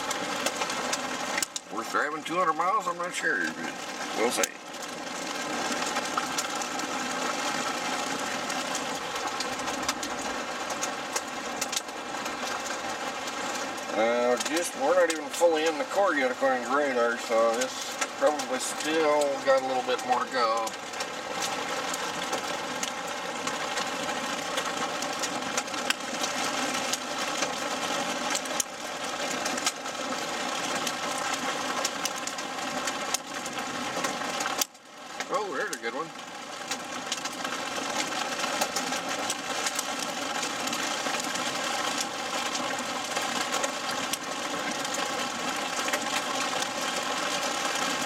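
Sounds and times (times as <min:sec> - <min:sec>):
hailstones ticking on vehicle: 0:00.0 - 0:48.0
heavy rain on vehicle roof: 0:00.0 - 0:48.0.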